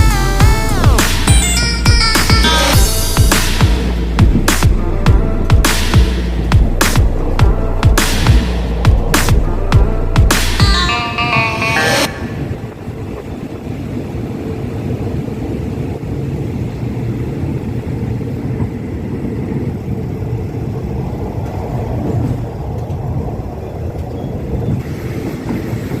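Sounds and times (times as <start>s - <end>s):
train wheels rumbling: 0.0s - 11.4s, 12.0s - 26.0s.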